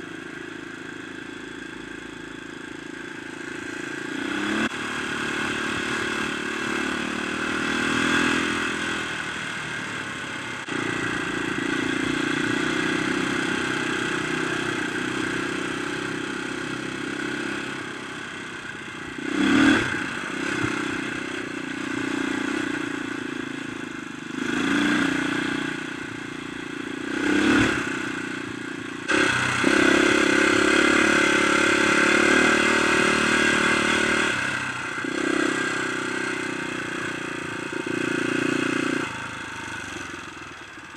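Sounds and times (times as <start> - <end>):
dirt bike engine revving: 0.8 - 40.7.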